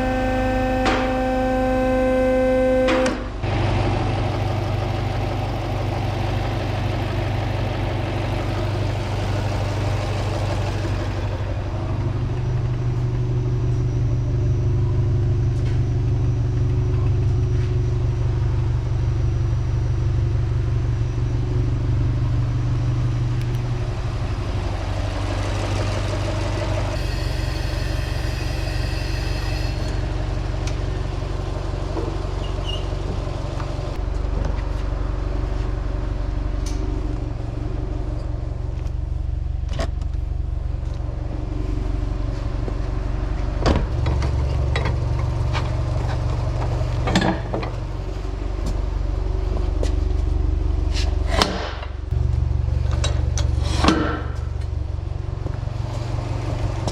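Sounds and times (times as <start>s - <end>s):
car engine idling: 0.0s - 27.5s, 30.1s - 56.9s.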